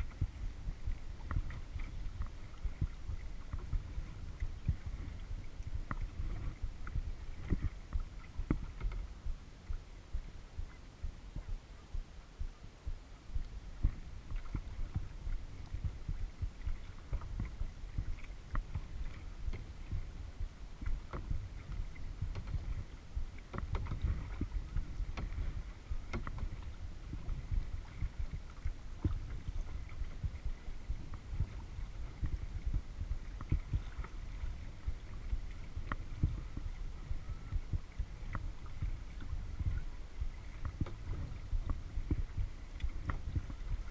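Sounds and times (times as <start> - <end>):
water knocking against kayak hull: 0.0 - 12.0, 12.8 - 43.9.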